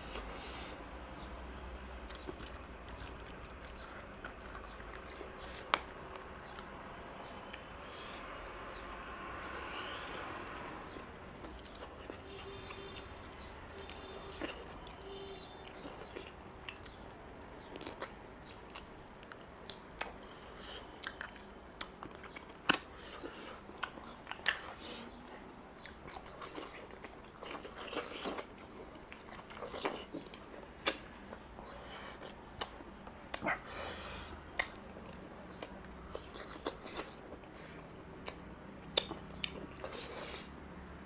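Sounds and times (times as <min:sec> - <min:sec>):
chewing and biting food: 0:00.0 - 0:41.0.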